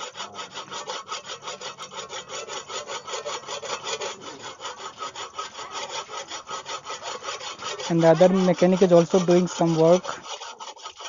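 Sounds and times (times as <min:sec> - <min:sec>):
abrasive tool rubbing steel disc: 0:00.0 - 0:11.0.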